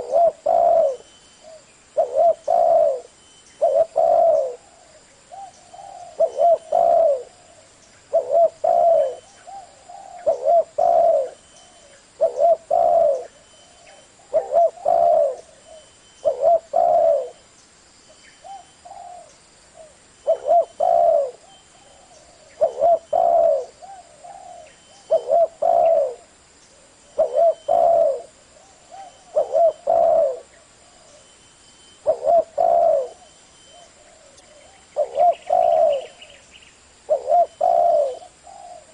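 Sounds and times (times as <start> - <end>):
dove cooing: 0.0 - 17.4, 18.4 - 31.4, 32.0 - 36.4, 37.0 - 38.9.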